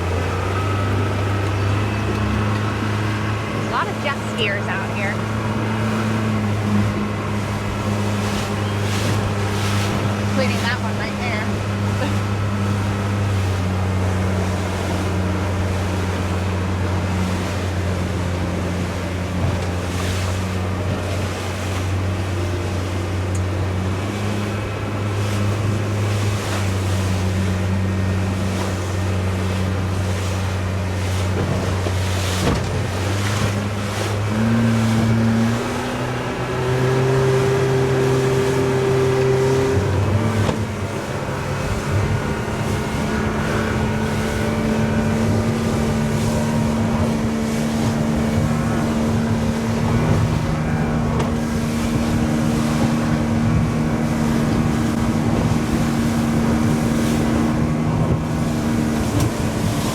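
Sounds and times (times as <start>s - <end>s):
motorboat engine running: 0.0s - 59.9s
rushing water: 0.0s - 59.9s
wind: 0.0s - 59.9s.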